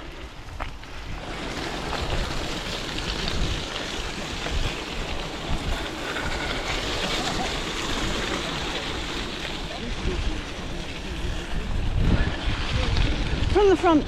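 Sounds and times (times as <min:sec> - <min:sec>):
bike tyres rolling on gravel: 0:00.0 - 0:14.0
wind on microphone: 0:00.0 - 0:14.0.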